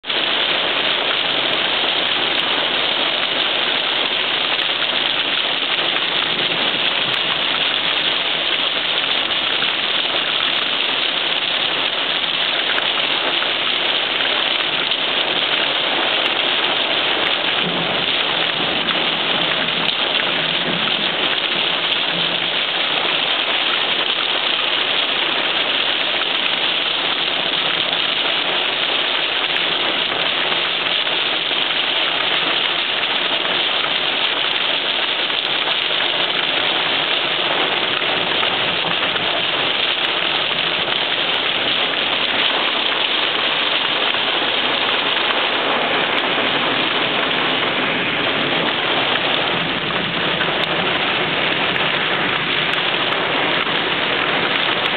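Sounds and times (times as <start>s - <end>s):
heavy rain on car roof: 0.0s - 54.9s.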